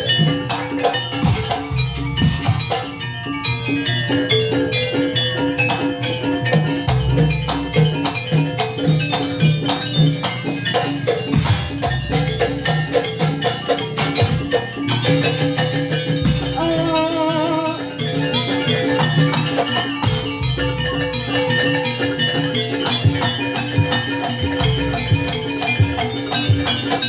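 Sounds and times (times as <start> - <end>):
drums: 0.0 - 27.0
metal mallet percussion: 0.0 - 27.0
wavering held melody: 0.0 - 27.0.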